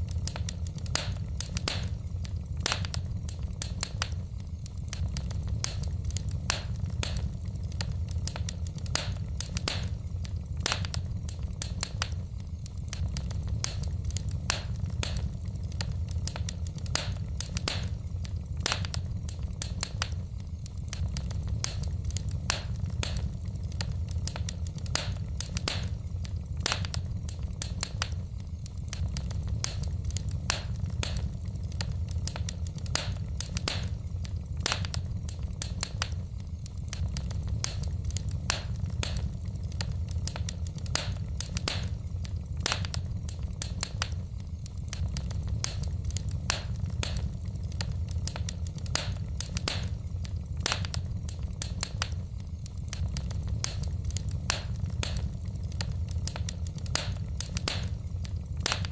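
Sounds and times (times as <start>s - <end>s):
logs crackling and popping: 0.0s - 58.9s
low rumble of flames: 0.0s - 58.9s.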